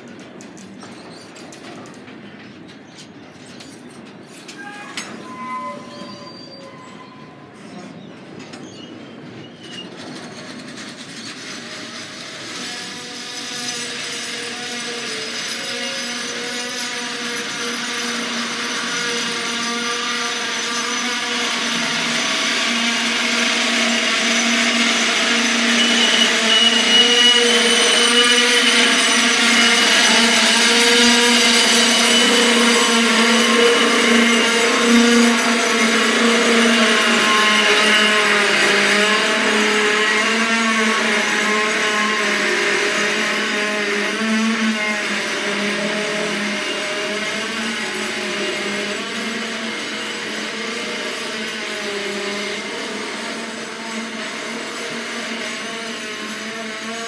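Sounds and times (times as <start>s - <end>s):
train brakes squealing: 0.0s - 57.0s
higher squeal: 4.3s - 53.4s
freight wagons rolling on track: 7.7s - 57.0s.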